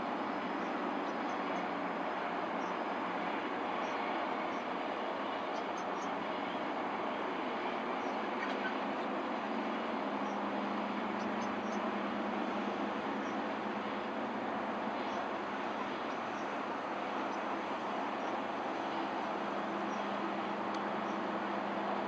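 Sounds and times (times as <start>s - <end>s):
diesel train running: 0.0s - 22.0s.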